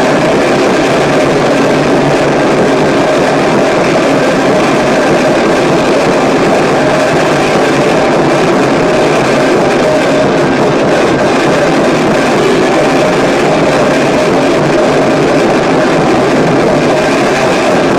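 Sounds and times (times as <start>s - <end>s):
loud distorted noise music: 0.0s - 17.9s.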